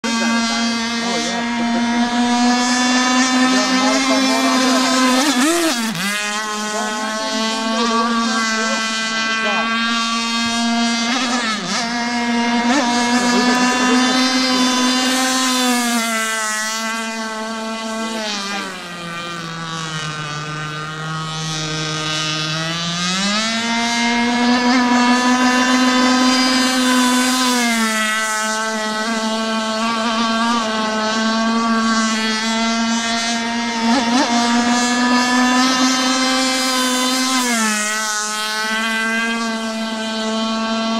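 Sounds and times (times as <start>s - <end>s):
model boat engine buzzing: 0.0s - 40.9s.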